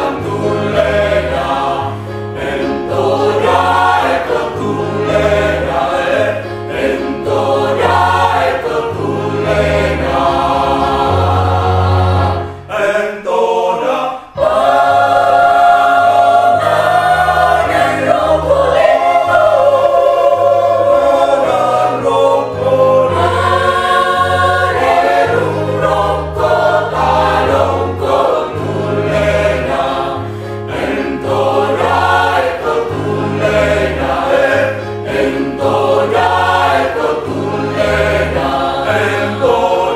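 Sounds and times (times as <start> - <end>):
mixed choir singing in harmony: 0.0 - 39.9.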